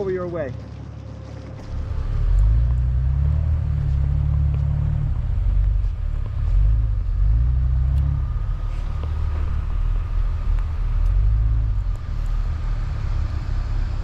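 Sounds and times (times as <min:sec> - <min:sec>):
engine rumbling under load: 0:00.0 - 0:14.0.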